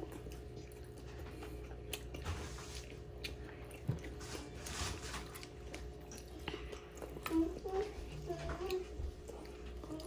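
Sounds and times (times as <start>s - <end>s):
crunchy food chewing: 0.0s - 10.0s.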